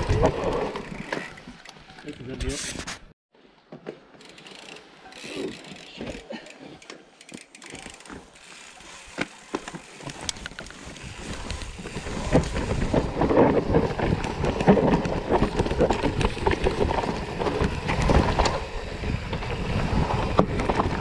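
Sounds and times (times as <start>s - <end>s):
bike rattles and clicks: 0.0s - 3.1s, 3.8s - 21.0s
bike tyres on dirt: 0.0s - 3.1s, 4.0s - 21.0s.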